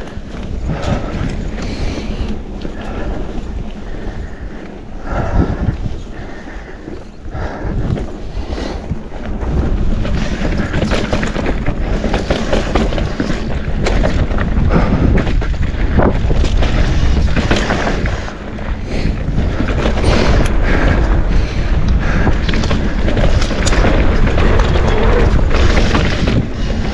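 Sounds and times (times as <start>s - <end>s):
bike rattling and knocking: 0.0s - 26.9s
tyres rolling over dirt: 0.0s - 26.9s
wind buffeting microphone: 0.0s - 26.9s.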